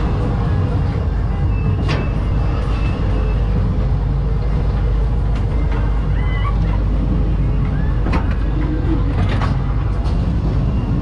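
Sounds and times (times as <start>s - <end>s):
ride car rumbling on steel track: 0.0s - 11.0s.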